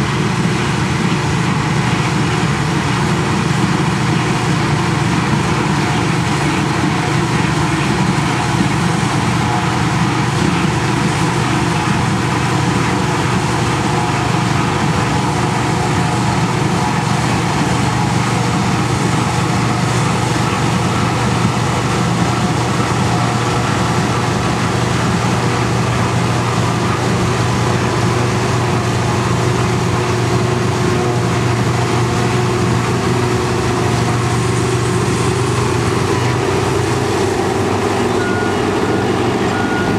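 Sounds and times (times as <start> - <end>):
forage harvester droning: 0.0 - 39.9
tractor running: 0.0 - 39.9.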